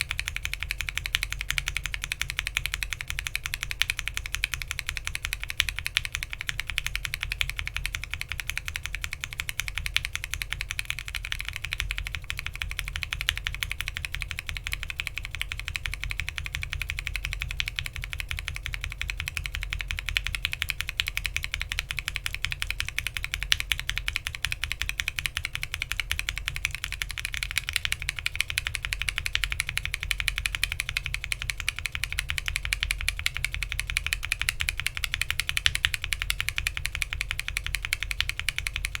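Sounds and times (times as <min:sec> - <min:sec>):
mechanical keyboard fast typing: 0:00.0 - 0:39.0.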